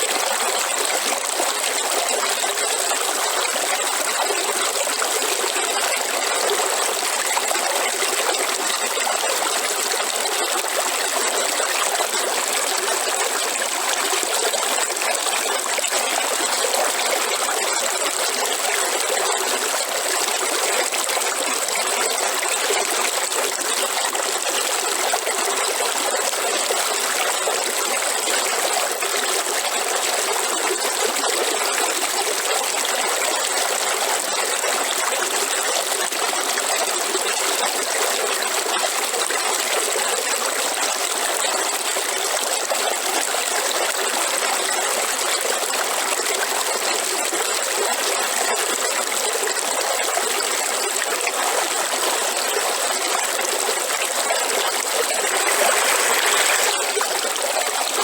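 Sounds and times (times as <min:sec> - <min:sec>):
river water flowing: 0:00.0 - 0:42.2, 0:45.9 - 0:58.0.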